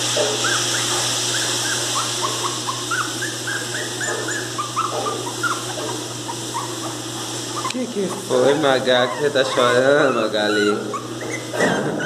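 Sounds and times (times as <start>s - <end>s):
puppy whining: 0.1s - 12.0s.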